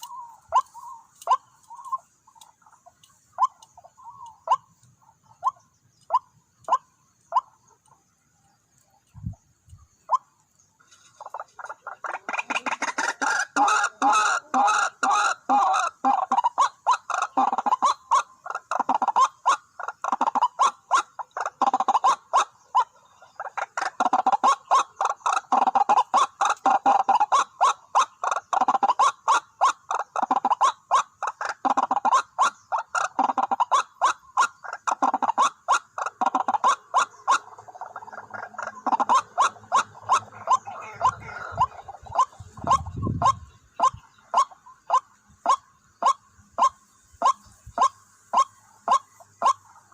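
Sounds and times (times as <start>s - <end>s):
bird harsh repeated calls: 0.0s - 49.9s.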